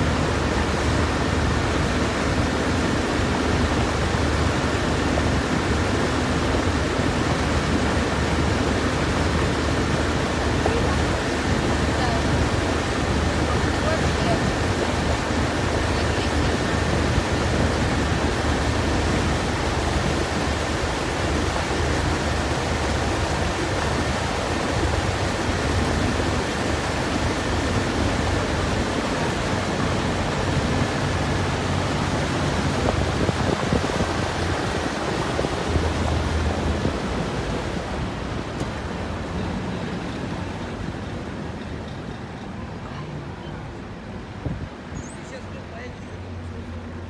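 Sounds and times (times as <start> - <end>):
low boat engine hum: 0.0 - 47.0
wind and water rushing: 0.0 - 47.0.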